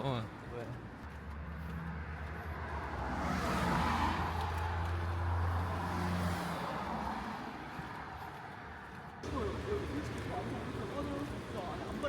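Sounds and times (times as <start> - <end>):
vehicle passing: 1.0 - 12.0.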